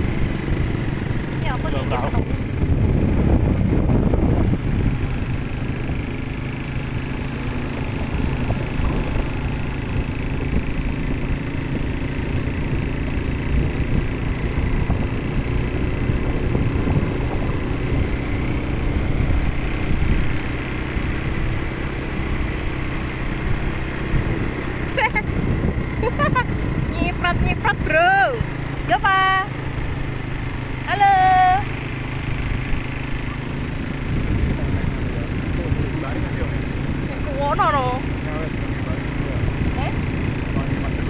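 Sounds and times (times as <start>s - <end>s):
quad bike engine running: 0.0s - 41.0s.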